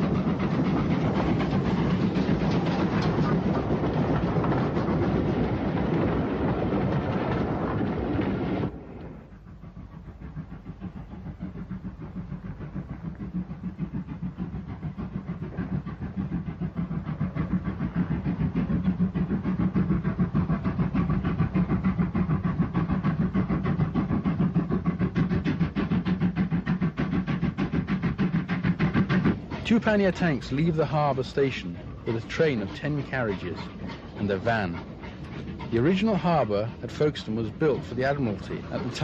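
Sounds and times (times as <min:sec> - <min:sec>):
steam locomotive exhaust beats: 0:00.0 - 0:39.0.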